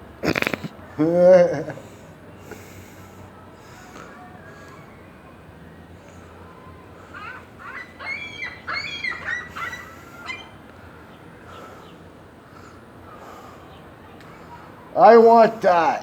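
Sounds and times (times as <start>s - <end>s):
seagulls calling: 0.8s - 15.9s.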